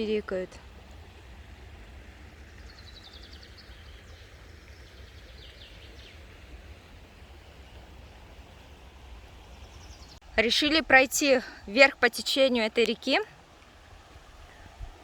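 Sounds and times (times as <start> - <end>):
small songbirds chirping: 0.0 - 13.4, 14.2 - 15.0.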